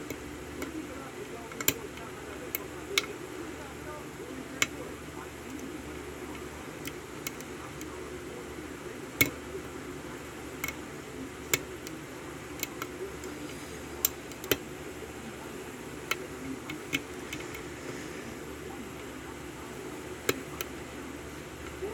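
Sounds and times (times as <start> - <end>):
low background noise: 0.0 - 21.9.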